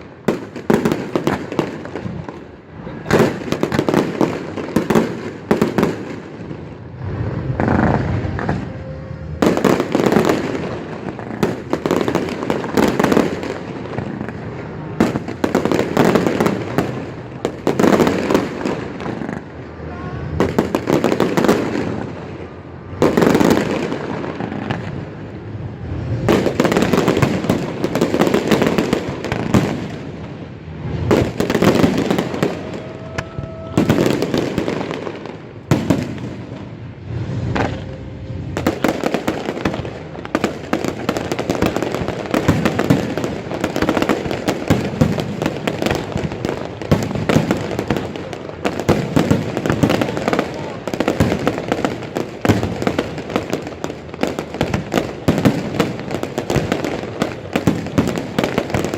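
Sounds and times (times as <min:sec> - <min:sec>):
crackling firework bursts: 0:00.0 - 0:58.9.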